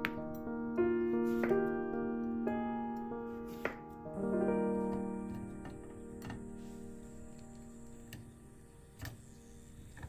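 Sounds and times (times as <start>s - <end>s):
held music chord: 0.0s - 10.0s.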